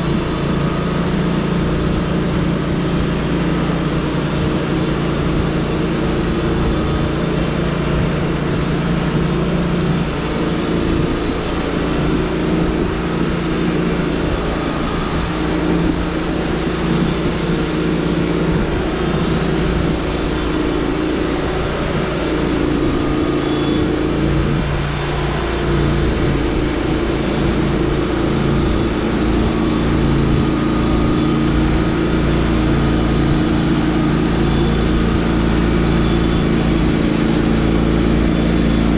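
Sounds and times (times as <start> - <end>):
engine running loudly: 0.0 - 38.9.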